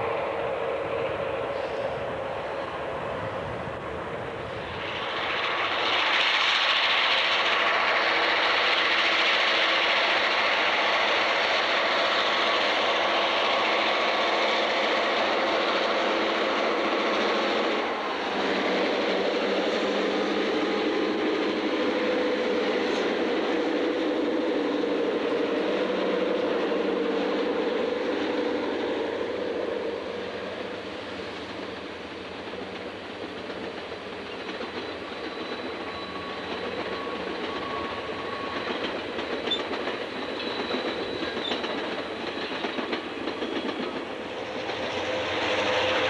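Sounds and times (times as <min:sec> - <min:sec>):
diesel locomotives passing: 0:00.0 - 0:46.0
passenger coaches rumbling by: 0:00.0 - 0:46.0.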